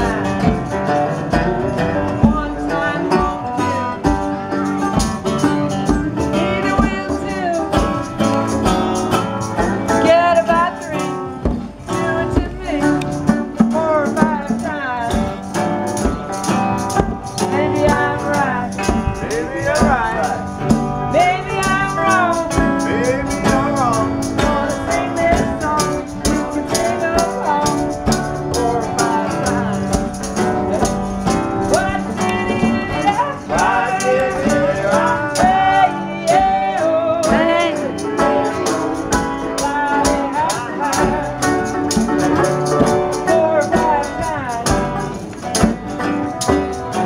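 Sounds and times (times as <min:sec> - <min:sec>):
acoustic guitars: 0:00.0 - 0:47.0
hand drums: 0:00.0 - 0:47.0
tambourine: 0:00.0 - 0:47.0.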